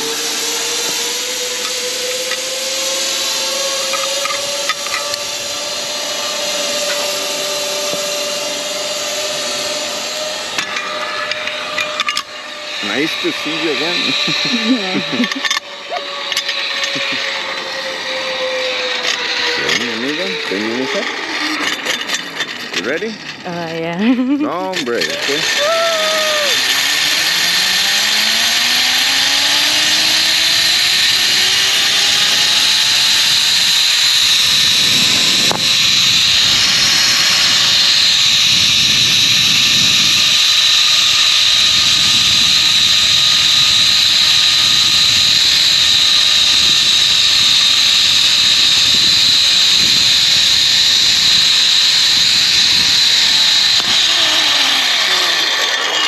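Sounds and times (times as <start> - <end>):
rushing noise: 0.0 - 15.0, 25.2 - 56.0
zipline pulleys whirring on cable: 0.0 - 56.0.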